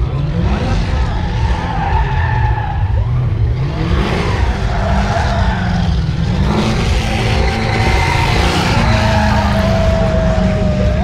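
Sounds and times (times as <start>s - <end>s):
car engine revving: 0.0s - 11.0s
tyres squealing on asphalt: 0.2s - 11.0s.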